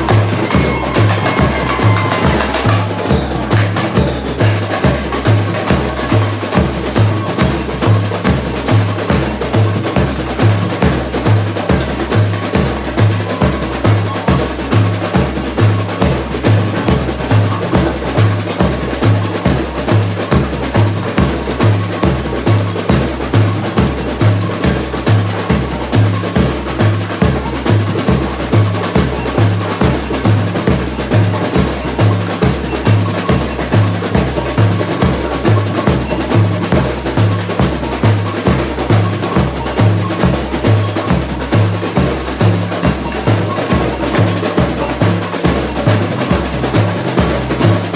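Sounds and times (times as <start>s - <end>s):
deep bass drums beating: 0.0s - 47.9s
snare drums and small percussion: 0.0s - 47.9s.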